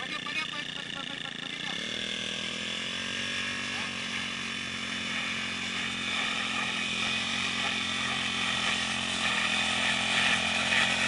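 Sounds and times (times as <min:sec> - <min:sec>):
brush cutter running: 0:00.0 - 0:11.0.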